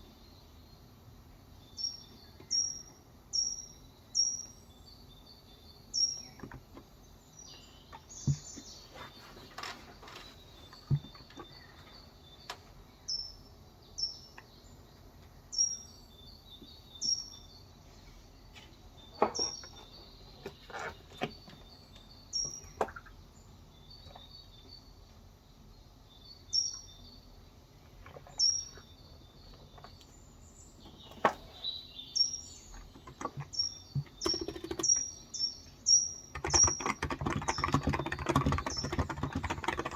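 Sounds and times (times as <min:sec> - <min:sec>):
bird chirping: 0:01.5 - 0:39.9.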